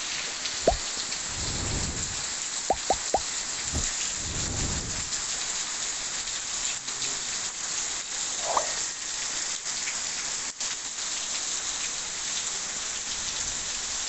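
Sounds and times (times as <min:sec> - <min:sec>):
heavy rain on grass: 0:00.0 - 0:14.0.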